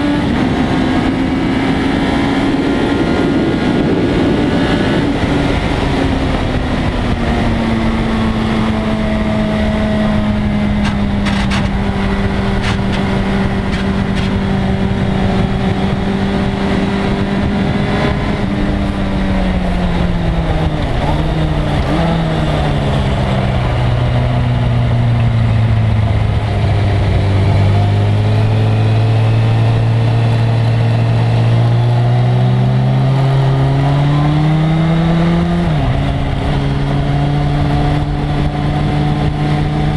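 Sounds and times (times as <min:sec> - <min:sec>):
motorcycle engine at speed: 0:00.0 - 0:39.9
steady rushing noise: 0:00.0 - 0:39.9.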